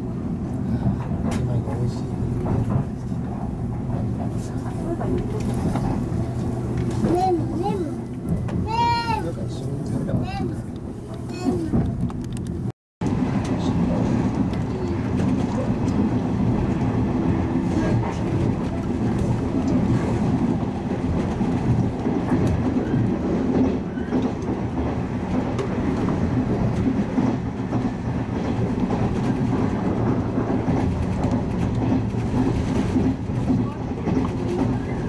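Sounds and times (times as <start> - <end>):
wheels rumbling on rails: 0.0 - 35.0.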